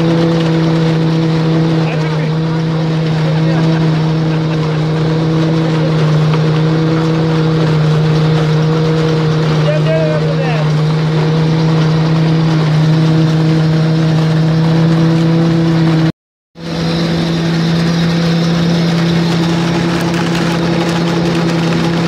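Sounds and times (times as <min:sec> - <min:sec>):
husking machine working: 0:00.0 - 0:22.0
tractor engine running: 0:00.0 - 0:22.0.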